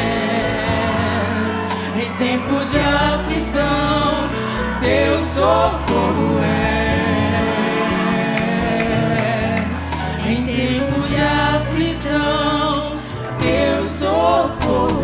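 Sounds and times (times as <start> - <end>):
woman singing: 0.0 - 15.0
worship music chords: 0.0 - 15.0.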